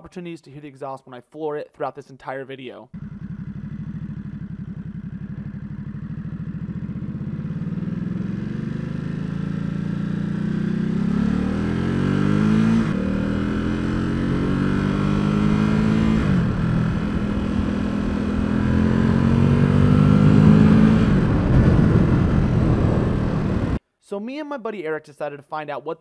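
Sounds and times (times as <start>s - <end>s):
motorcycle engine accelerating: 2.9s - 23.8s.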